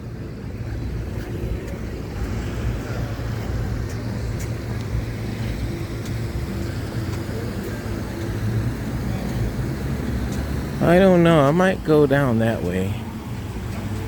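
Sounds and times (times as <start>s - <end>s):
electric scooter rumbling on pavement: 0.0s - 14.0s.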